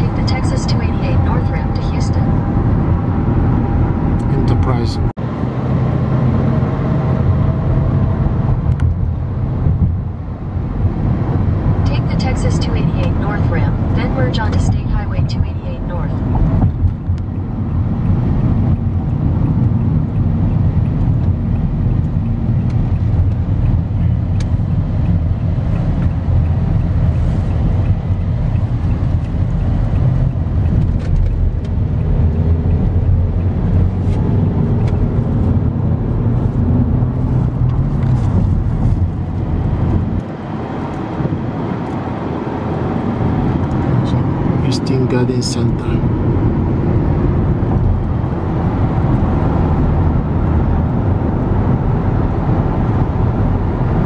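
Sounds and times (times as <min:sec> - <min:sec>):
car cabin road noise: 0:00.0 - 0:54.0.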